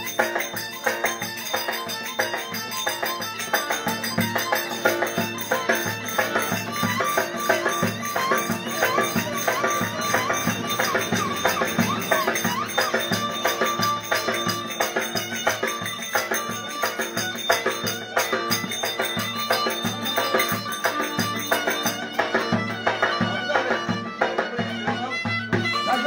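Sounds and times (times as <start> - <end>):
reedy wind instrument melody: 0.0 - 26.0
steady drum beat: 0.0 - 26.0.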